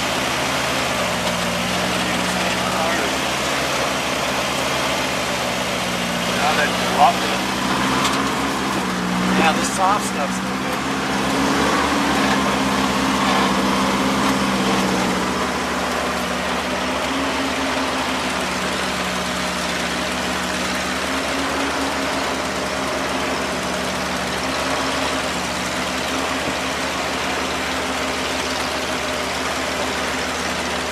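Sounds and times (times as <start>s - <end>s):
vehicle engine running at low revs: 0.0s - 30.9s.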